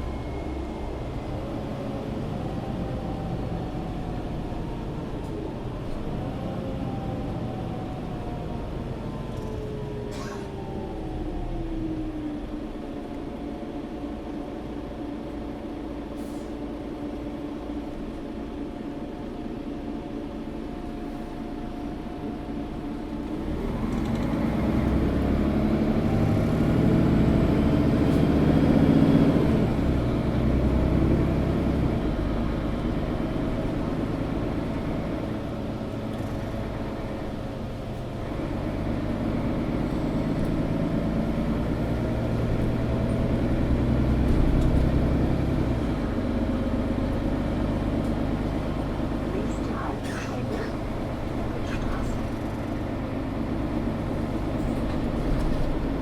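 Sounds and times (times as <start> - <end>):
bus engine and drivetrain whine: 0.0 - 56.0.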